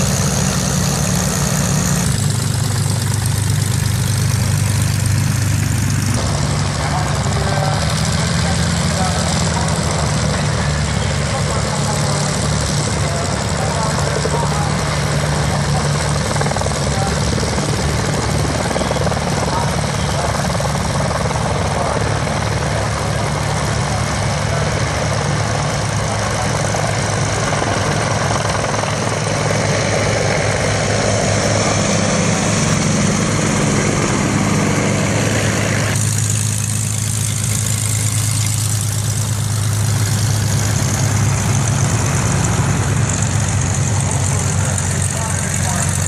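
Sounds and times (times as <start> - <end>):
helicopters in flight: 0.0 - 46.0
propeller plane engines idling: 0.0 - 46.0.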